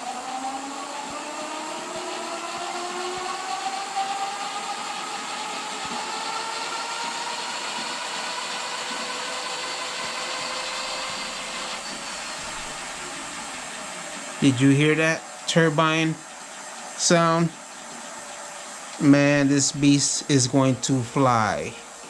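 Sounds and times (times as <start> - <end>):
electric hub motor whining: 0.0 - 22.0.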